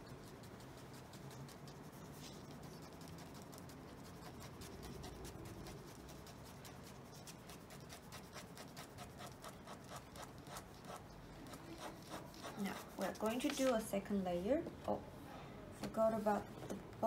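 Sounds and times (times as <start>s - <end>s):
pen scratching on paper: 0.0s - 13.9s.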